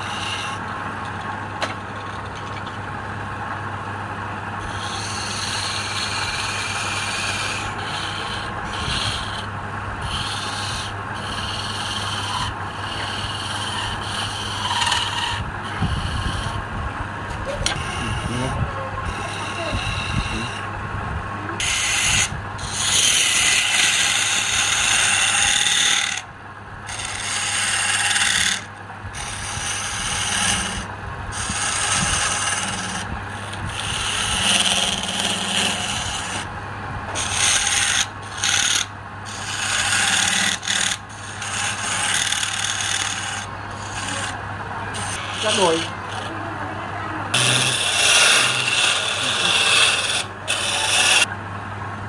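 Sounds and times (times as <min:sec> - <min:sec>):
tool scraping wood on lathe: 0:00.0 - 0:02.8, 0:04.6 - 0:16.7, 0:17.4 - 0:20.7, 0:21.6 - 0:26.3, 0:26.9 - 0:36.5, 0:37.1 - 0:46.4, 0:47.3 - 0:51.3
motor hum: 0:00.0 - 0:52.0.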